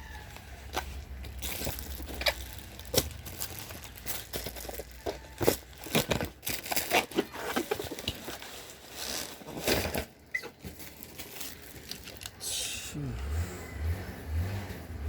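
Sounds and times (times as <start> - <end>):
packaging crinkling and rustling: 0.2 - 12.4.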